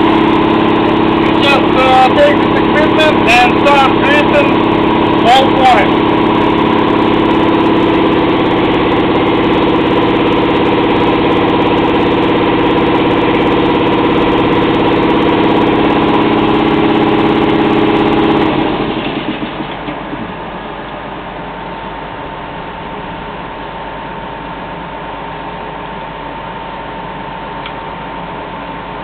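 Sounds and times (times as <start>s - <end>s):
steady hum: 0.0s - 19.0s, 20.3s - 29.0s
engine idling: 0.0s - 28.1s.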